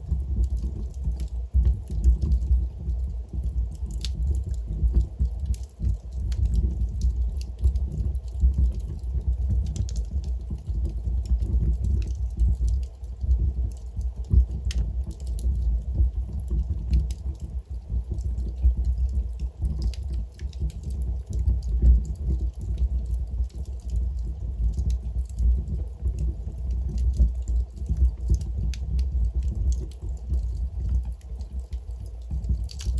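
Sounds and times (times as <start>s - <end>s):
fire flames rumbling: 0.0s - 32.9s
logs crackling and popping: 0.0s - 32.9s.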